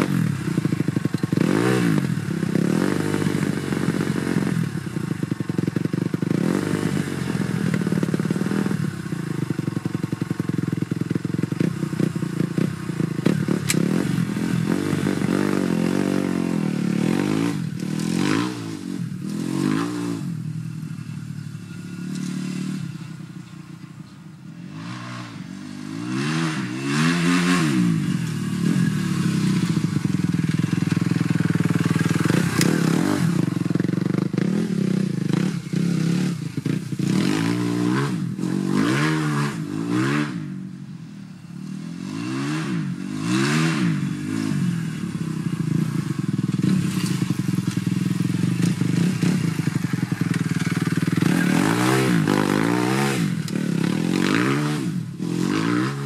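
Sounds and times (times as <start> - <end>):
motocross bike revving: 0.0 - 56.0.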